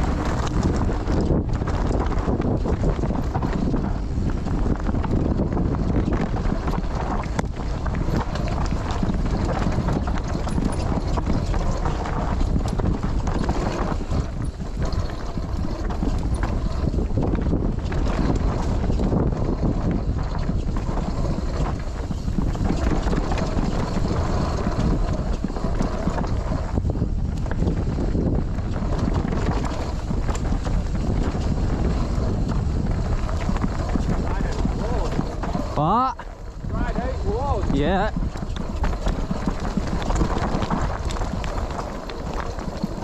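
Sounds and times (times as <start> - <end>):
bike rattling: 0.0 - 43.0
bike tyres on dirt and stones: 0.0 - 43.0
wind on microphone: 0.0 - 43.0.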